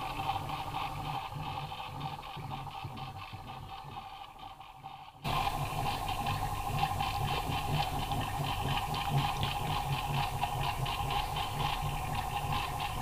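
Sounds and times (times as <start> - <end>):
turntable motor hum with ticking: 0.0 - 13.0.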